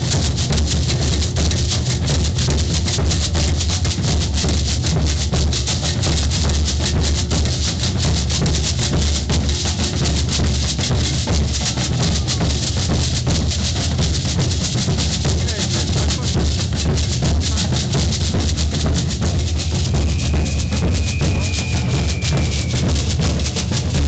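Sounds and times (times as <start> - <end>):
deep bass drums: 0.0 - 24.0
drum ensemble playing: 0.0 - 24.0
shakers: 0.0 - 24.0
snare drums: 0.0 - 24.0.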